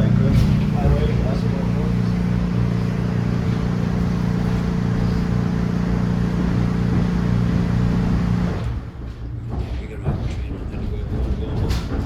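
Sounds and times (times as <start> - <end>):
subway car hum: 0.0 - 12.0
wheels rumbling on rails: 0.0 - 12.0.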